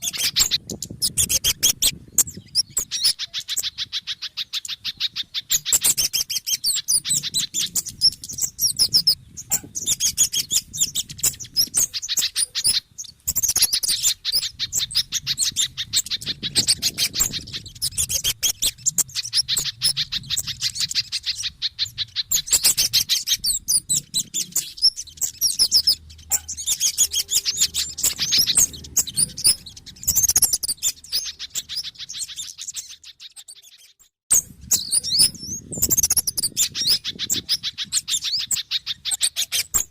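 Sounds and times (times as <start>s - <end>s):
small birds chirping rapidly: 0.0s - 39.9s.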